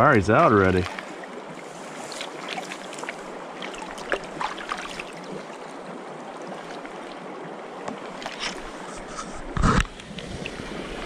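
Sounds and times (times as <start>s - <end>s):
light water splashes: 0.0s - 11.0s
stream running over riffles: 0.0s - 11.0s.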